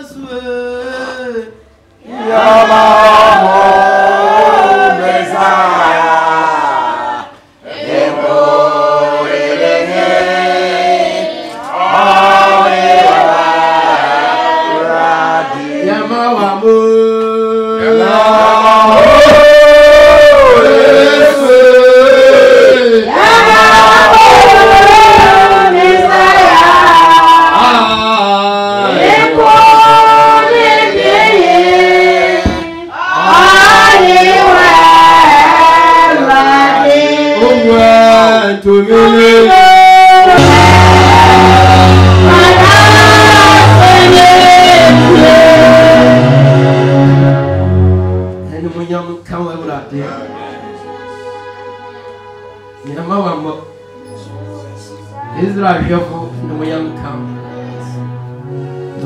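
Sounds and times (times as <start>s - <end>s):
congregation singing: 0.0s - 48.8s, 50.0s - 59.0s.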